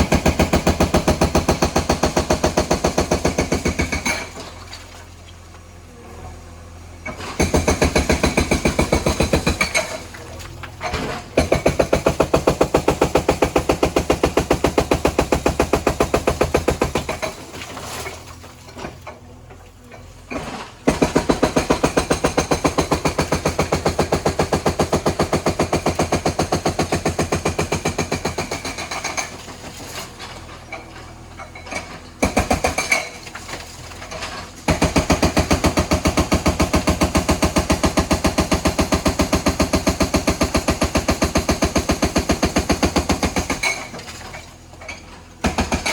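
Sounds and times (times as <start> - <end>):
hydraulic breaker hammering: 0.0 - 4.4, 7.1 - 10.2, 10.9 - 17.6, 20.3 - 29.4, 31.5 - 45.9.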